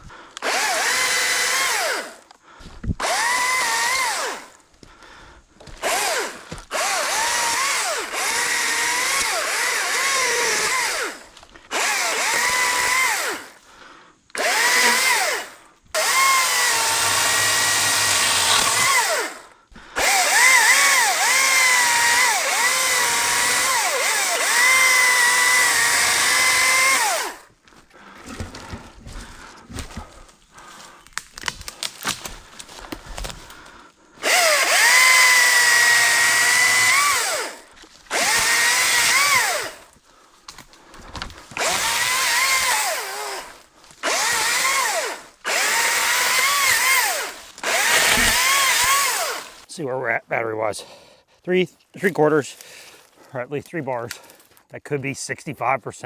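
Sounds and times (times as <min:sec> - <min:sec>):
chainsaw cutting wood: 0:00.4 - 0:02.3, 0:02.9 - 0:04.6, 0:05.6 - 0:13.6, 0:14.3 - 0:30.2, 0:30.8 - 0:49.7.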